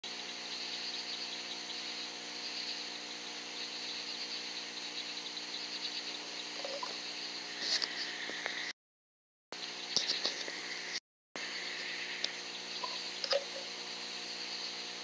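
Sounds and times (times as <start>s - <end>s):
crickets chirping: 0.1s - 8.6s, 9.8s - 15.0s
faint electronic hum: 0.1s - 8.7s, 9.6s - 15.0s.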